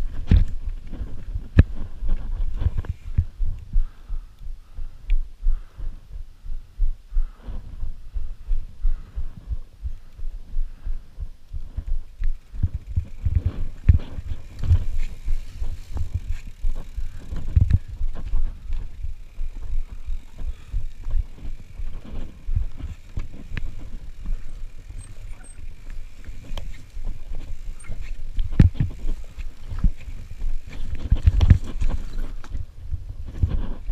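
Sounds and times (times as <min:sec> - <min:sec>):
bike clicking and rattling: 0:00.0 - 0:06.0, 0:07.2 - 0:33.9
bike wheels thudding over bumps: 0:00.0 - 0:06.1, 0:06.9 - 0:33.9.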